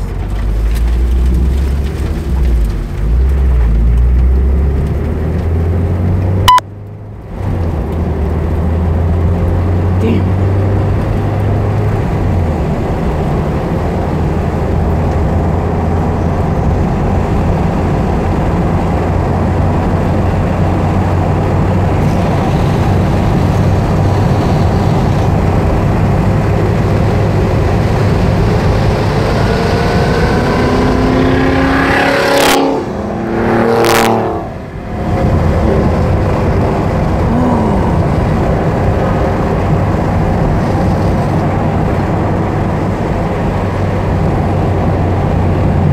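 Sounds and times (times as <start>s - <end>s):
car engine pulling hard: 0.0s - 45.9s
road and wind noise: 0.0s - 45.9s.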